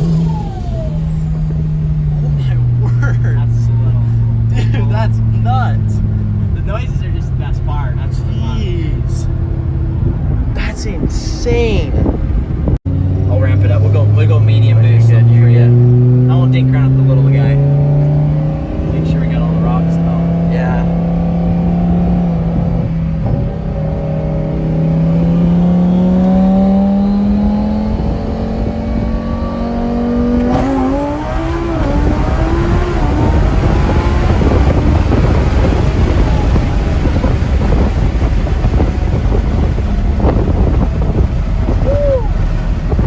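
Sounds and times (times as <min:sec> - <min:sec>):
car engine climbing in pitch: 0:00.0 - 0:43.0.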